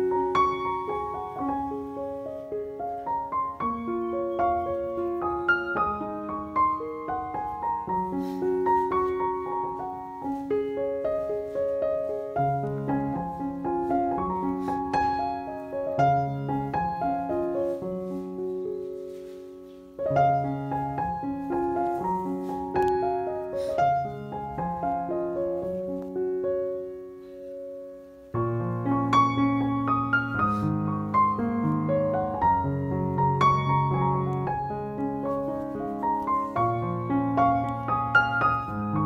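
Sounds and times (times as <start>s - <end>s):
gentle piano melody: 0.0s - 39.0s.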